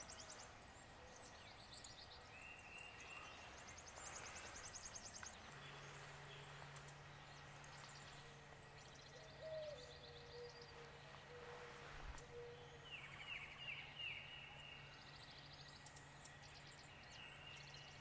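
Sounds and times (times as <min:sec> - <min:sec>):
birdsong with whistles and trills: 0:00.0 - 0:18.0
low steady hum: 0:00.0 - 0:18.0.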